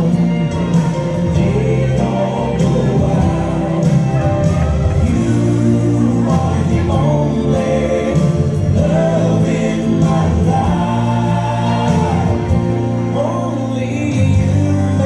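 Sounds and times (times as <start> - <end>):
waltz song with vocals: 0.0 - 15.0.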